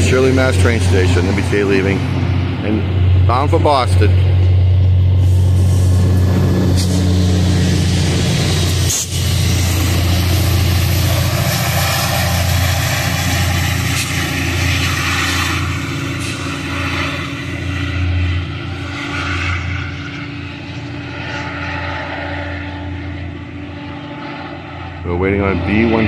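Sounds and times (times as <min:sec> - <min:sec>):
diesel locomotive engine drone: 0:00.0 - 0:26.0
rail and wheel noise: 0:00.0 - 0:26.0.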